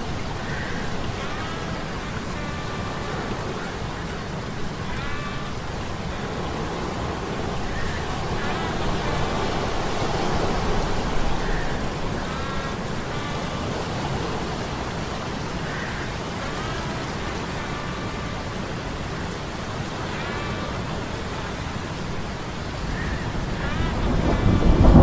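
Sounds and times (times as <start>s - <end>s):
surf and rain rushing: 0.0s - 25.0s.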